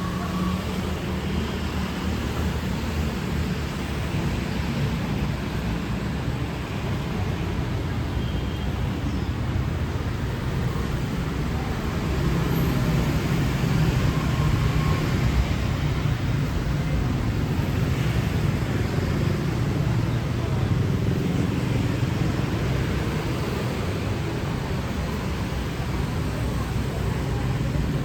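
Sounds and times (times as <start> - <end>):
traffic rumble and road noise: 0.0 - 28.0.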